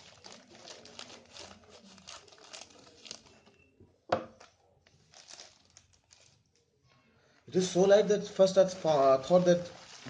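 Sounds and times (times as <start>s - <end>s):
packaging rustling and crinkling: 0.0s - 3.7s, 4.3s - 6.6s, 7.4s - 10.0s.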